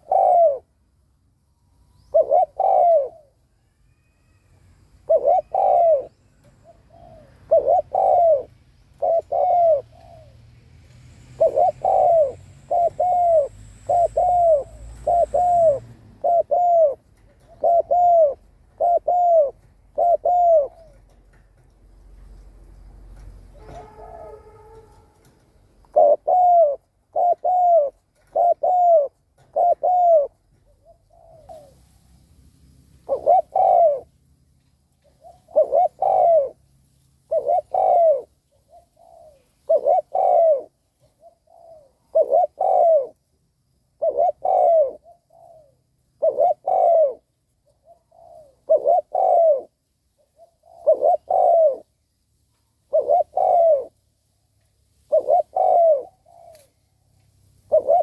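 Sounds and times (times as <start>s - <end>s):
dove cooing: 0.0s - 1.0s, 1.9s - 21.6s, 23.1s - 31.8s, 33.0s - 34.2s, 35.0s - 36.7s, 37.3s - 52.0s, 52.8s - 54.0s, 55.0s - 58.0s.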